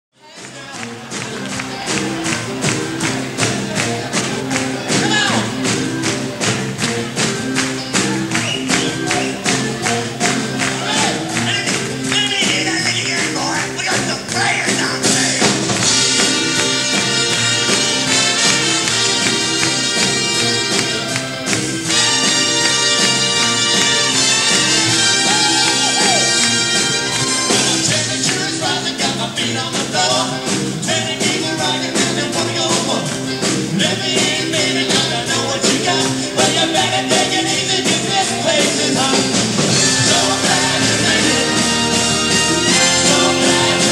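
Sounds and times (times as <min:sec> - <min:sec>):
brass band playing blues: 0:00.2 - 0:43.9.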